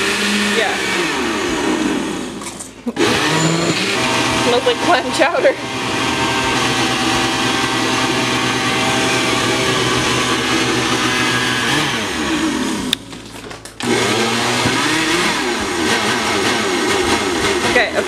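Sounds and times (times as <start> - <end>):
blender motor running: 0.0 - 13.0, 13.8 - 18.0.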